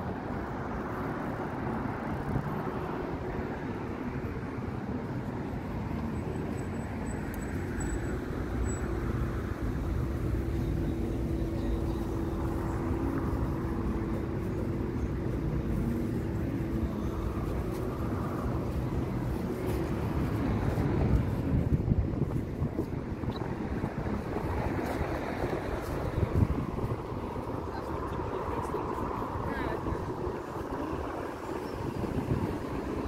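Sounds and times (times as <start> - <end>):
cars passing: 0.0 - 33.0
traffic rumble: 0.0 - 33.0.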